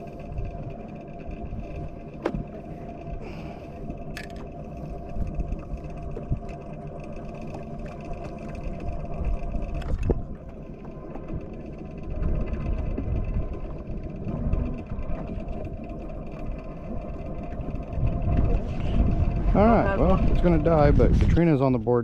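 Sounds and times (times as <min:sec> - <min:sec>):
boat motor rumbling: 0:00.0 - 0:22.0
faint steady motor whine: 0:00.0 - 0:22.0.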